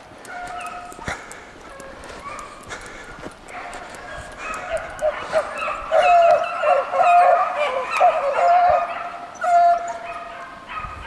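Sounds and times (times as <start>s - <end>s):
hounds baying and barking: 0.0s - 11.0s.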